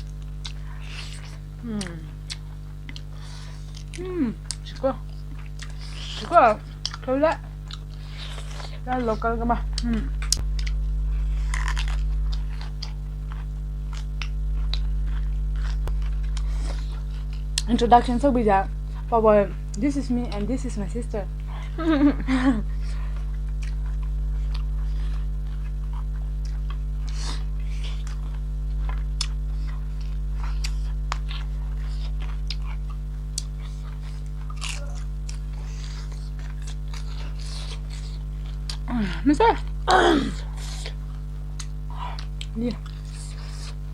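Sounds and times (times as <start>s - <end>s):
people eating and chewing: 0.0s - 20.3s, 21.4s - 43.9s
low electrical hum: 0.0s - 43.9s.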